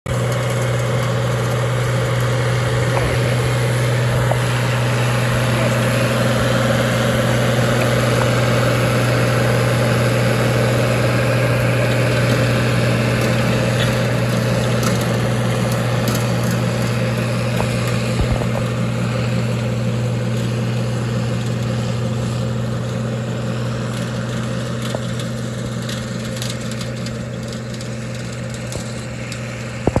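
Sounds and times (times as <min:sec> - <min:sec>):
tractor diesel engine under load: 0:00.0 - 0:30.0
manure spreader beaters throwing manure: 0:00.1 - 0:30.0.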